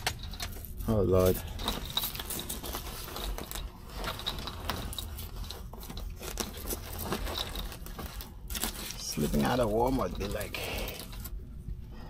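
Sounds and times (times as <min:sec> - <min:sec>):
crunches and scrapes of handling: 0:00.0 - 0:12.0
low steady hum: 0:00.0 - 0:12.0.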